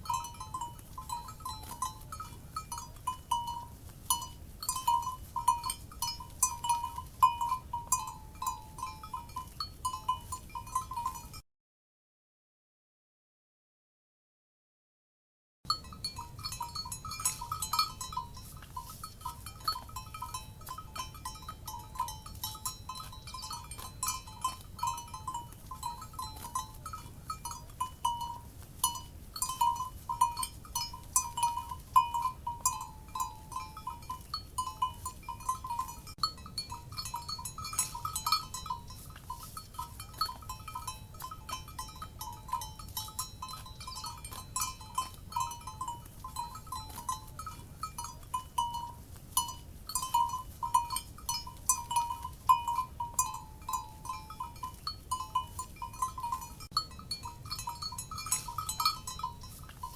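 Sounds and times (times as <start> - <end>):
cowbells clanking: 0.0 - 11.4, 15.7 - 59.9.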